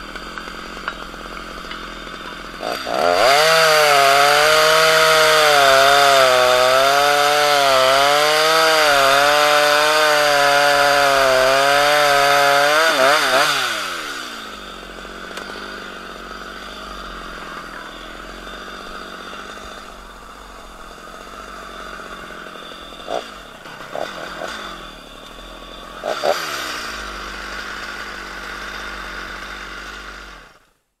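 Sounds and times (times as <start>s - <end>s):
chainsaw cutting wood: 0.0s - 30.7s.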